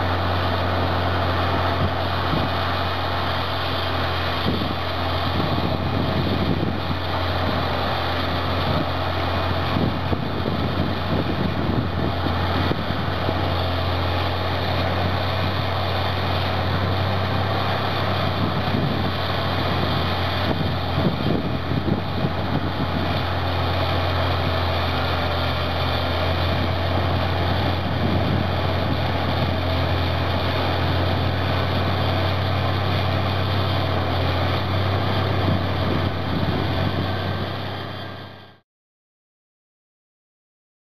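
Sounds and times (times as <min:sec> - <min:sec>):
bulldozer diesel engine droning: 0:00.0 - 0:38.6.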